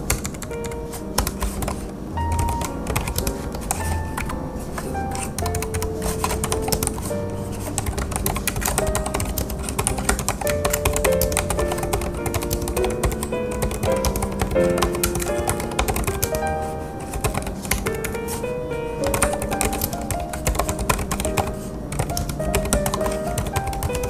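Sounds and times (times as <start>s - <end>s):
background music with melody: 0.0s - 24.0s.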